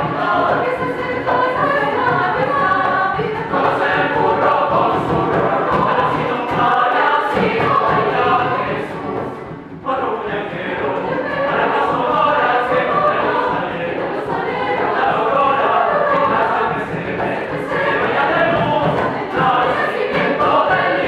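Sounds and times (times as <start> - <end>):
choir singing in parts: 0.0 - 21.0.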